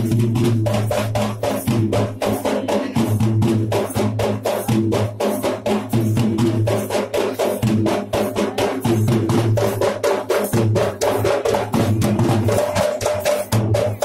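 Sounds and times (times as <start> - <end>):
hand drums beating fast: 0.0 - 14.0.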